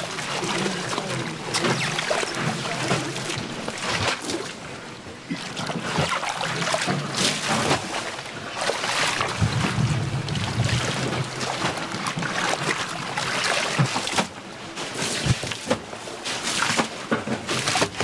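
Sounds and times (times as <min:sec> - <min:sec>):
cabbage sloshed in water: 0:00.0 - 0:18.0.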